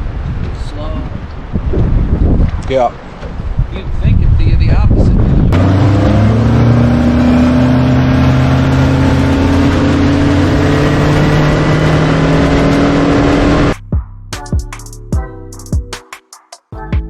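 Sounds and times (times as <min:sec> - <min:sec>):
rushing wind: 0:00.0 - 0:13.8.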